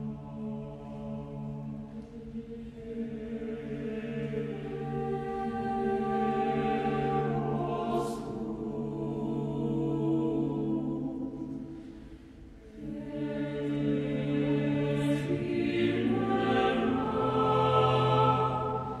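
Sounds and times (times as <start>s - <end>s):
choir singing sustained chords: 0.0s - 19.0s.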